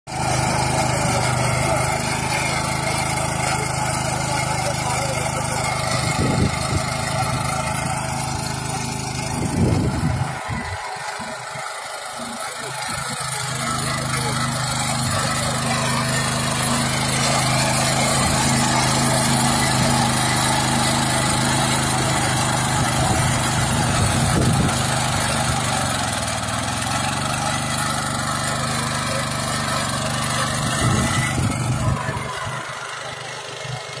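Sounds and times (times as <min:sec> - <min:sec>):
small engine running under load: 0:00.1 - 0:34.0.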